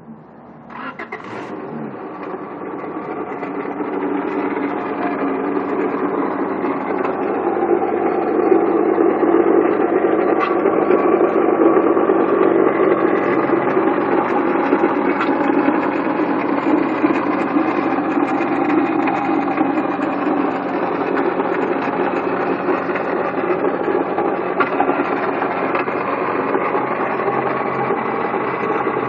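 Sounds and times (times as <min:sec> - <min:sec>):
car engine running: 0:00.0 - 0:29.0
rattling grinding water pump: 0:00.6 - 0:29.0.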